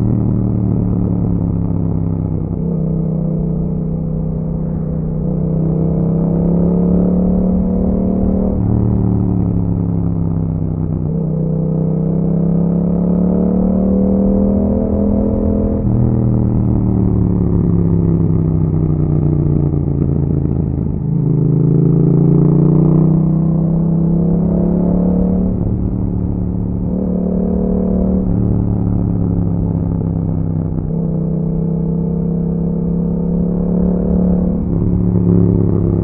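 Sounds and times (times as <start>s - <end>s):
motorcycle engine shifting gears: 0.0s - 36.0s.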